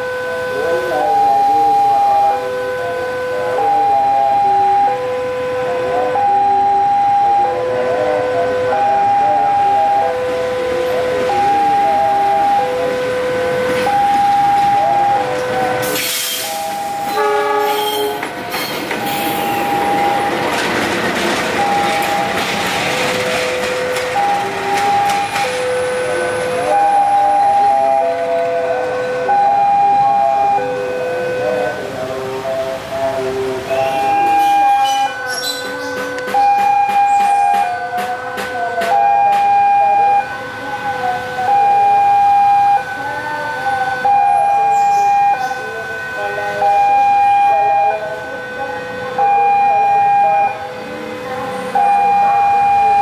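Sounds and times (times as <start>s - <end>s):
electronic warning siren: 0.0s - 53.0s
passing train running noise: 0.0s - 53.0s
locomotive horn chord: 1.7s - 20.4s, 27.4s - 53.0s
steady high tone: 5.6s - 20.6s, 21.6s - 53.0s.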